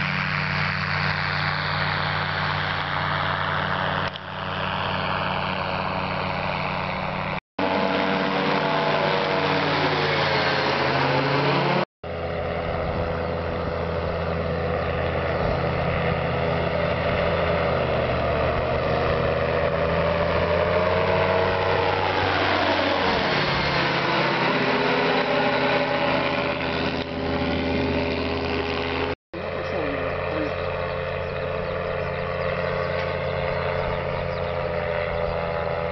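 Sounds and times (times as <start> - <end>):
engine and propeller running: 0.0 - 35.9.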